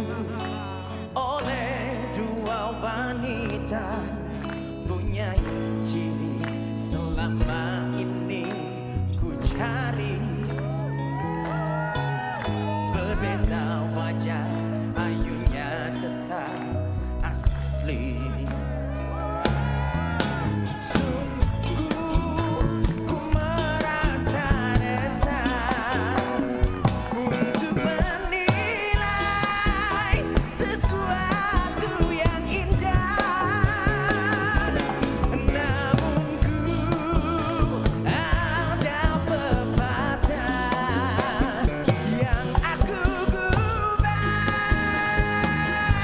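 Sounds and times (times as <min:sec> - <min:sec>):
band backing track: 0:00.0 - 0:46.0
man singing: 0:00.0 - 0:46.0.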